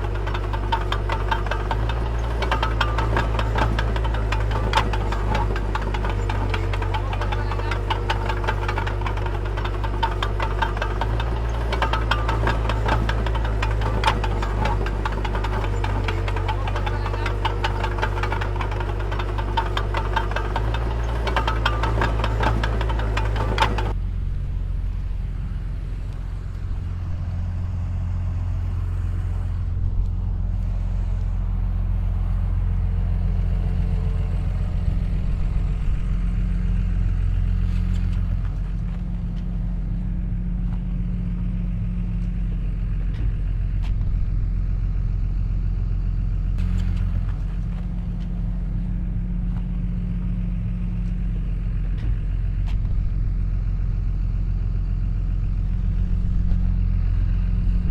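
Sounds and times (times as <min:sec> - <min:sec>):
diesel engine droning: 0:00.0 - 0:57.9.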